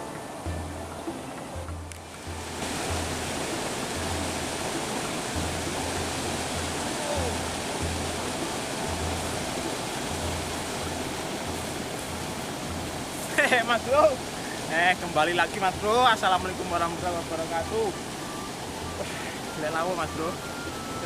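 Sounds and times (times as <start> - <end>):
low bass background music: 0.0 - 14.2, 15.0 - 21.0
river water rushing: 0.0 - 21.0.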